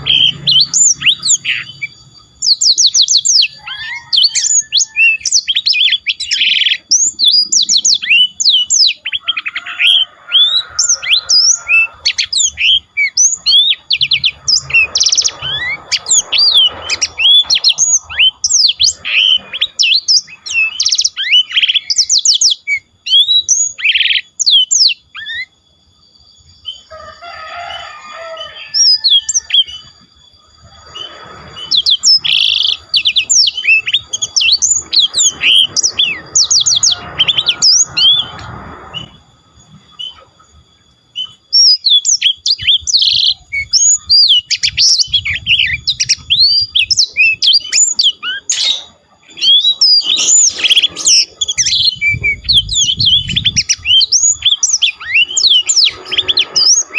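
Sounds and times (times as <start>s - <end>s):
songbird singing: 0.0s - 56.9s.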